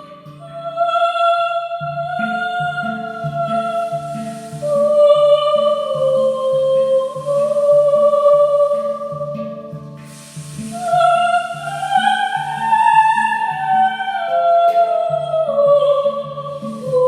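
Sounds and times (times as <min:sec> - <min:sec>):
woman singing wordless held notes: 0:00.0 - 0:17.0.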